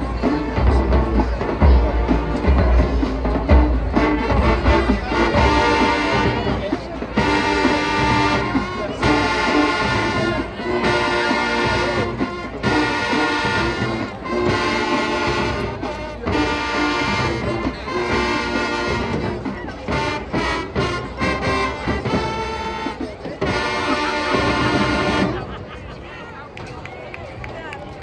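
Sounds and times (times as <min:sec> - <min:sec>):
brass chords: 0:00.0 - 0:25.7
marching band drums: 0:00.0 - 0:25.7.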